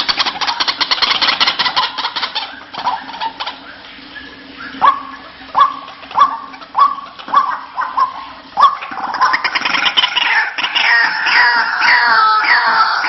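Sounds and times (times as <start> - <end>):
waterhen call: 0.0 - 13.0.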